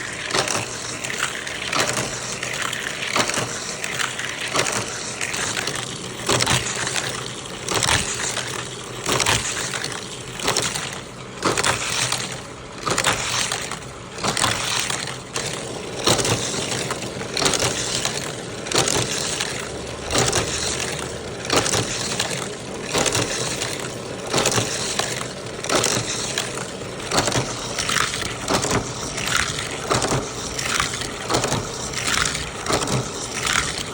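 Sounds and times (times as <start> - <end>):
plastic toys rattling and scraping: 0.0 - 33.9
sharp plastic clacks: 0.2 - 33.9.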